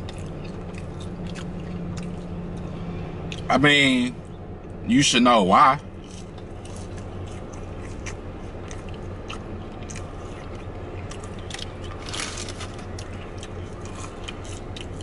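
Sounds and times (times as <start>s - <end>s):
person chewing fries: 0.0s - 3.5s, 5.8s - 15.0s
steady low hum: 0.0s - 15.0s.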